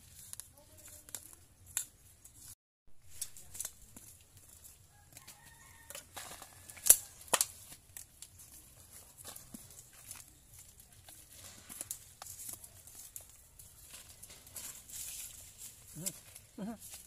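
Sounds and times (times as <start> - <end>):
soil and roots crunching and tearing: 0.0 - 17.0.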